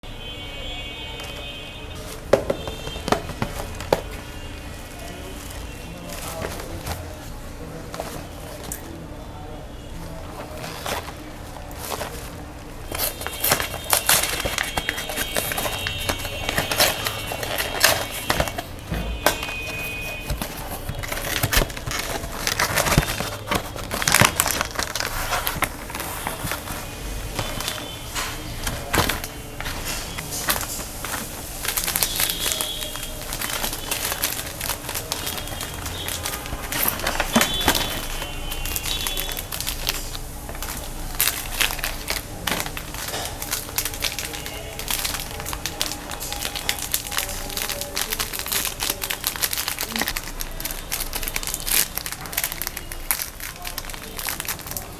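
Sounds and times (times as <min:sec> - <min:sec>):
meat grinder crunching snacks: 0:10.1 - 0:54.9.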